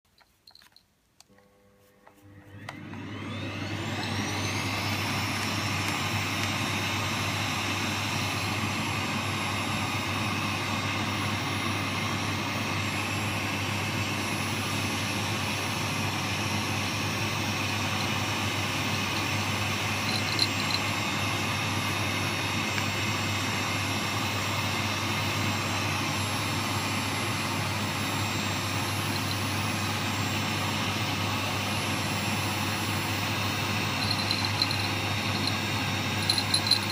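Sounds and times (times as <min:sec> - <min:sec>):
vacuum cleaner motor whining: 0:01.3 - 0:36.9.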